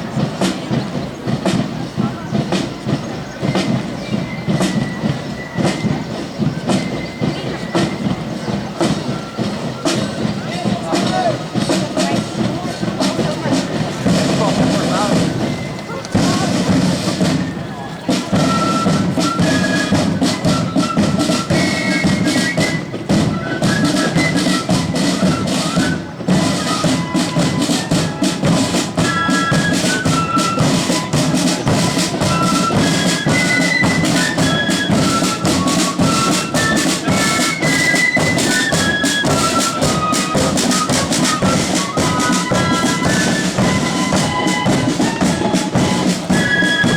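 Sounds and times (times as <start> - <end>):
rapid snare drumming: 0.0 - 46.9
flutes playing quick tune: 0.1 - 46.9.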